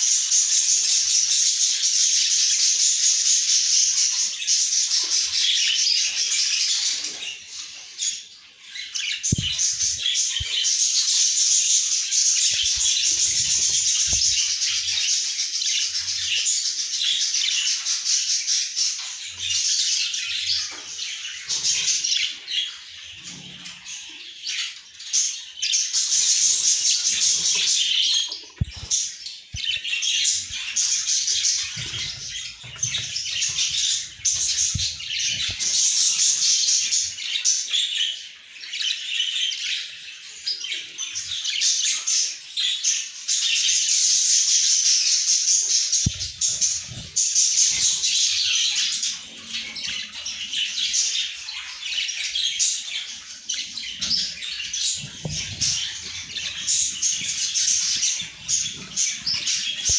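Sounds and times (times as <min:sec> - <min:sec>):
budgerigars chirping and chattering: 0:00.0 - 0:59.9.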